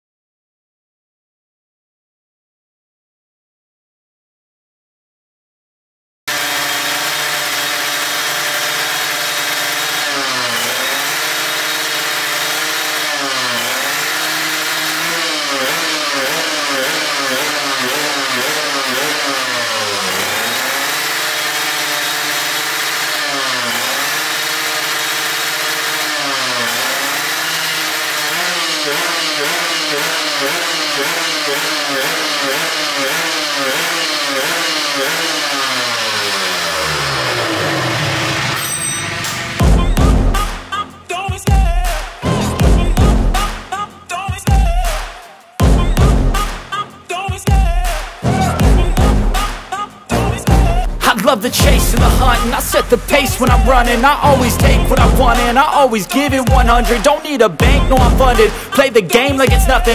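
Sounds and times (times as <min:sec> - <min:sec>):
motorcycle engine revving: 0:06.3 - 0:59.9.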